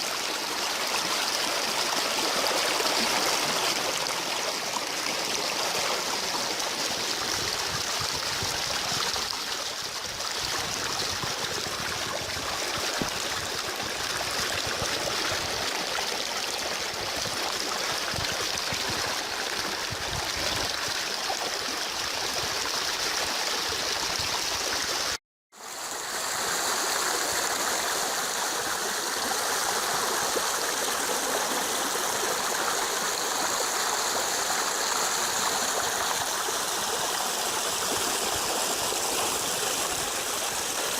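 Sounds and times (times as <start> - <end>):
stream rushing: 0.0 - 21.7, 25.7 - 40.9.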